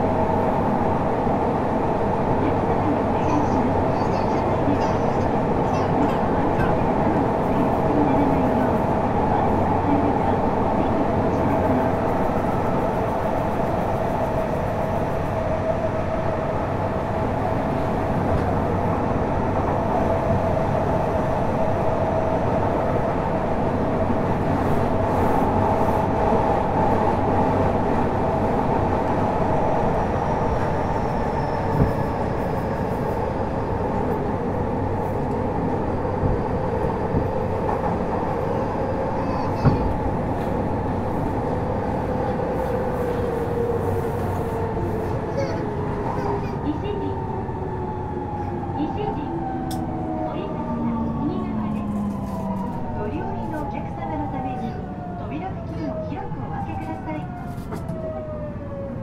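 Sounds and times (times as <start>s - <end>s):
train wheels rumbling and whirring: 0.0s - 59.0s.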